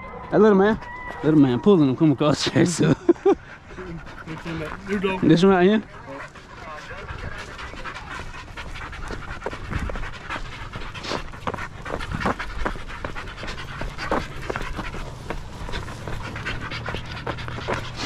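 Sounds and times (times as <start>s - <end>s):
dog panting: 0.1s - 18.0s.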